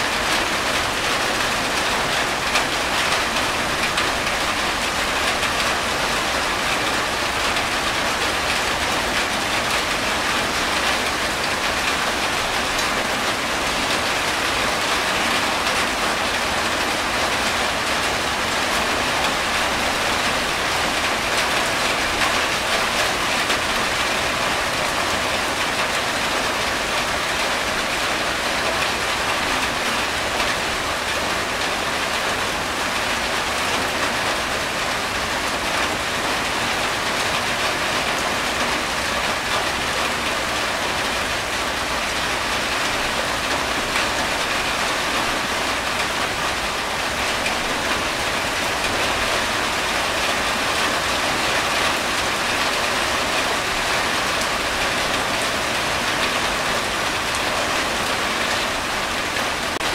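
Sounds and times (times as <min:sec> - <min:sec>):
rain on a tin roof: 0:00.0 - 0:59.9
water streaming off roof: 0:00.0 - 0:59.9.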